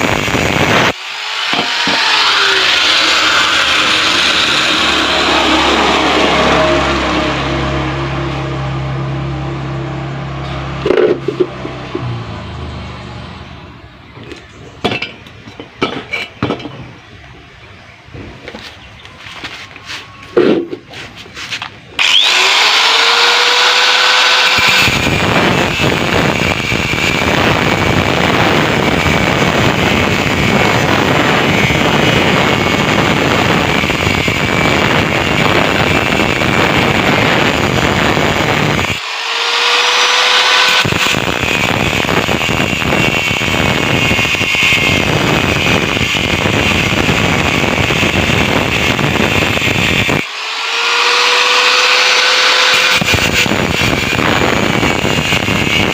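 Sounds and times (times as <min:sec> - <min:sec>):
angle grinder cutting metal: 0:00.0 - 0:13.6, 0:20.8 - 0:55.9.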